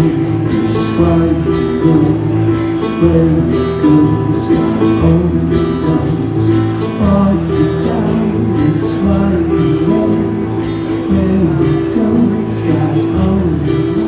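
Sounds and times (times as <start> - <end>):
acoustic guitars strummed: 0.0 - 14.0
keyboard chords: 0.0 - 14.0
man singing into microphone: 0.0 - 14.0.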